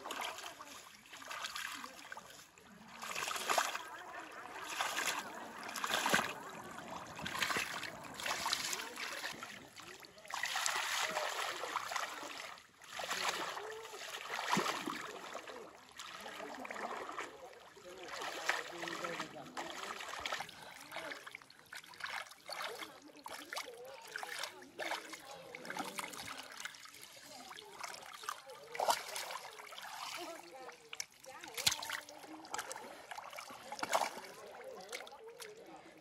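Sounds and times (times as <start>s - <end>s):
legs wading through muddy water: 0.0s - 36.0s.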